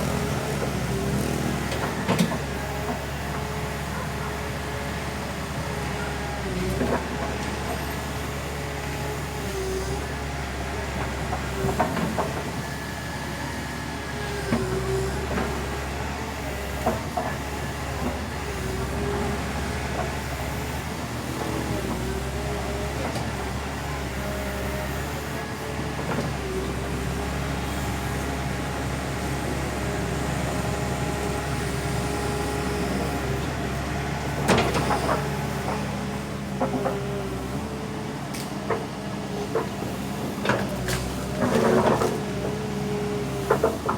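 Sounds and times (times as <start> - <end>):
diesel engine running under load: 0.0 - 43.9.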